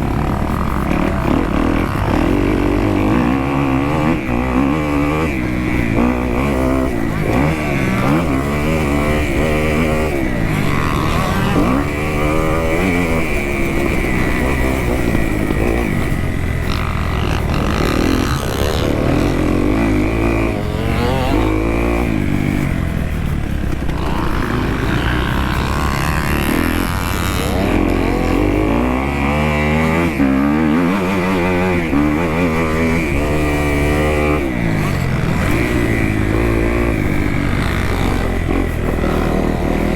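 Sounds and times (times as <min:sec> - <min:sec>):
dirt bike engine revving hard: 0:00.0 - 0:39.9.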